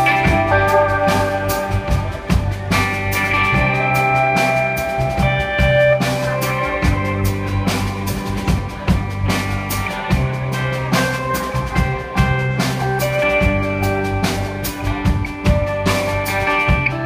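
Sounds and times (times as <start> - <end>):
drum kit beat: 0.0 - 17.0
electric guitars and bass: 0.0 - 17.0.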